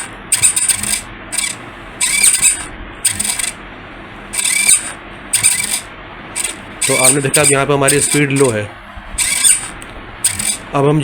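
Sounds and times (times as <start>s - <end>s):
servo motor whirring: 0.0s - 3.6s, 4.3s - 10.7s.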